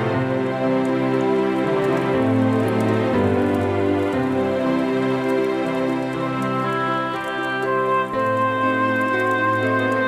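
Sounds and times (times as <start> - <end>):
calm new-age instrumental music: 0.0 - 10.0.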